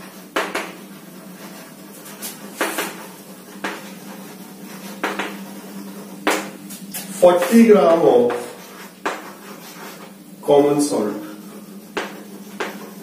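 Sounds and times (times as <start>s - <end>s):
chalk scratching on blackboard: 0.0s - 10.2s, 11.0s - 13.0s.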